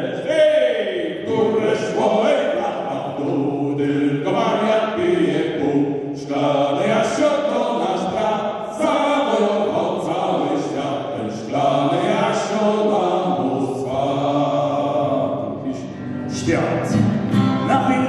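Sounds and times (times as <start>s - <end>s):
male group singing in harmony: 0.0s - 18.0s.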